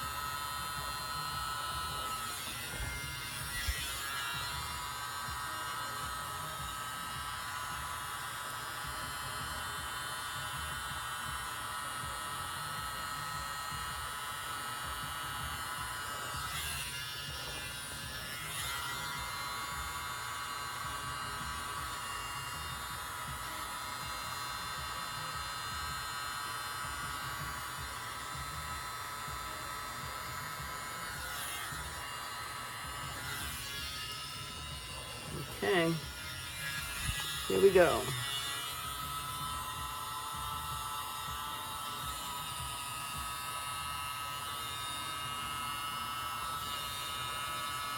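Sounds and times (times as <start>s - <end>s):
handheld blower motor whine: 0.0s - 47.9s.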